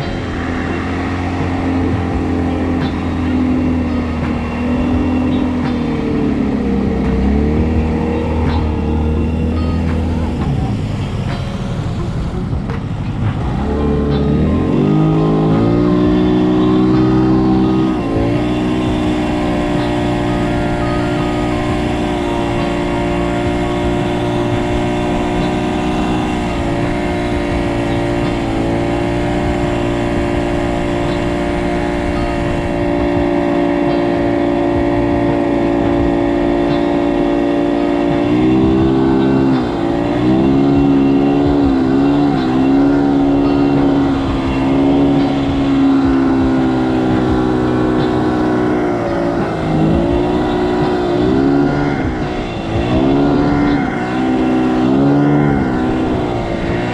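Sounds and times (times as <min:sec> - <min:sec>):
motor engine running: 0:00.0 - 0:56.9.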